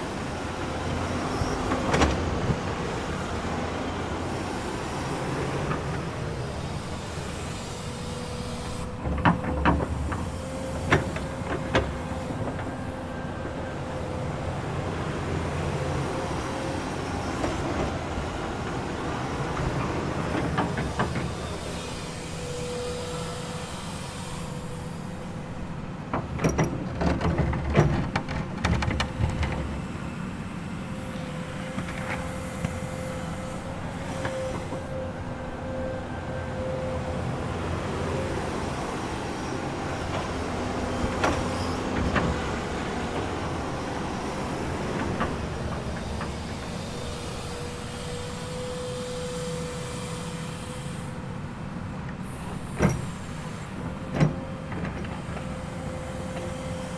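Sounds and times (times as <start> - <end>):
excavator diesel engine running: 0.0 - 23.7, 24.4 - 56.9.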